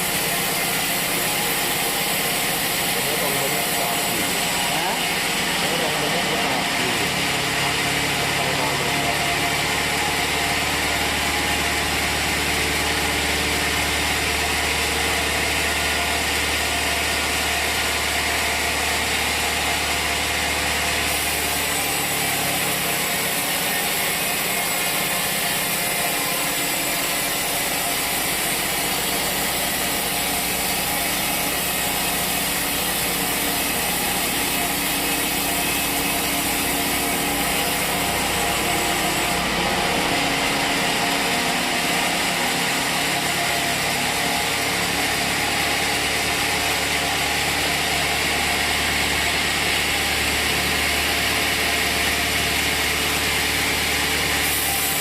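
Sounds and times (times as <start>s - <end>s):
sawmill machinery hum: 0.0s - 55.0s.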